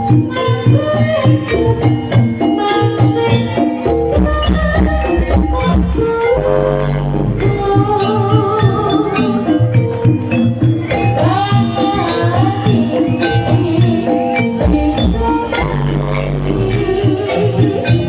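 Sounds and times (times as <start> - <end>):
hand drums: 0.0 - 18.0
jingling percussion: 0.0 - 18.0
wavering melody line: 0.0 - 18.0.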